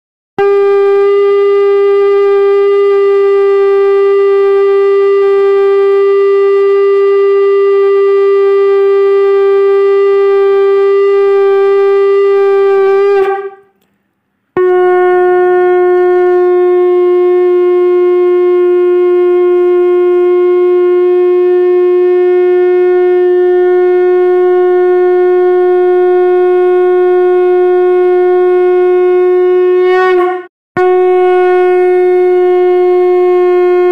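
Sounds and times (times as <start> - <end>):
conch shell blown: 0.4 - 13.8, 14.6 - 33.9.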